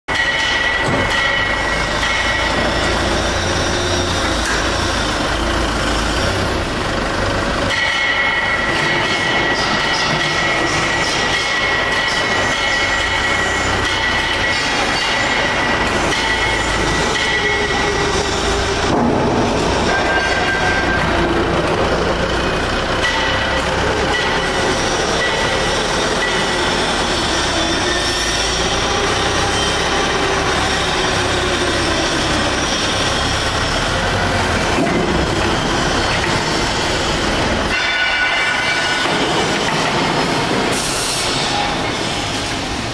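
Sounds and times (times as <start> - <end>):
forklift running: 0.1 - 42.9
steel scraping and squealing: 0.1 - 42.9.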